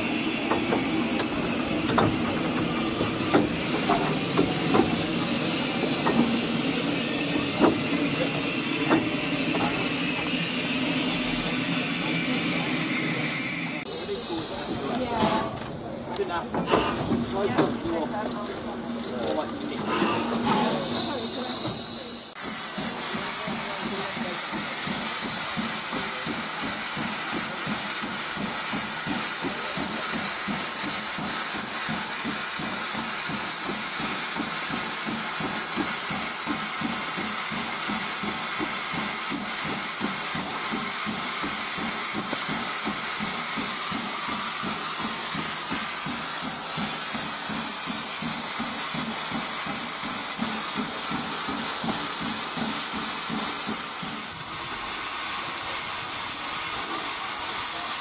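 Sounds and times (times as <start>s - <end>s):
steam hissing from locomotive: 0.0s - 58.0s.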